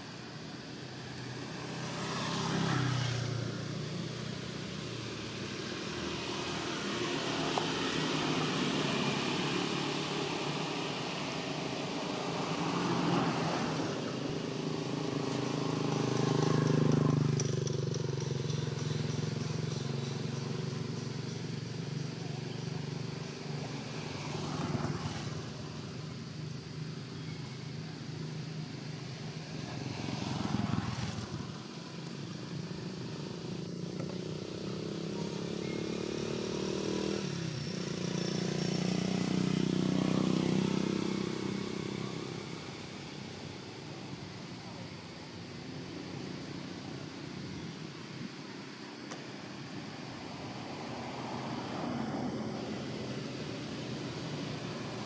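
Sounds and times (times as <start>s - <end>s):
vehicle engines running: 0.0s - 55.0s.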